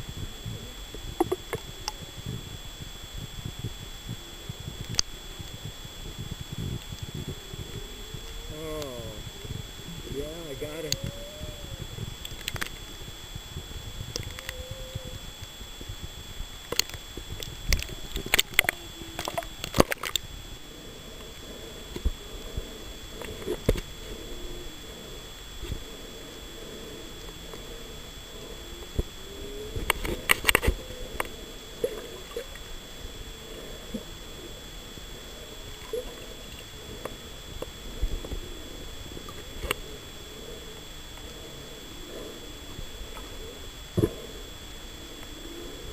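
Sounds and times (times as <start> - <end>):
whale song moans: 0.0 - 45.9.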